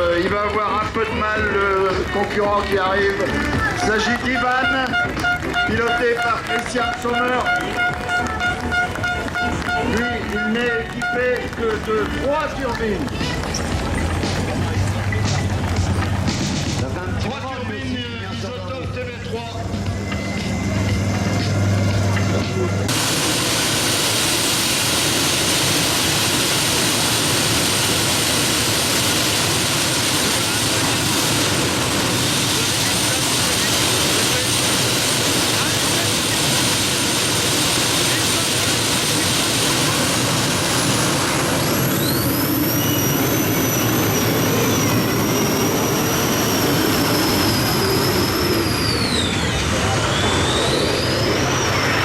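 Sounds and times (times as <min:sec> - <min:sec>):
high constant whine: 0:00.0 - 0:52.0
pulling tractor roaring: 0:00.0 - 0:52.0
turbine engines rushing: 0:00.0 - 0:52.0.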